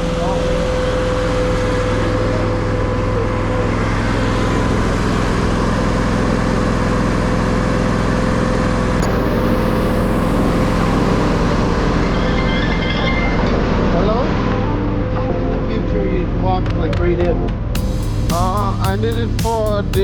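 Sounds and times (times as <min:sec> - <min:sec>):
engine low rumble: 0:00.0 - 0:15.2, 0:15.8 - 0:20.0
steady hum: 0:00.0 - 0:20.0.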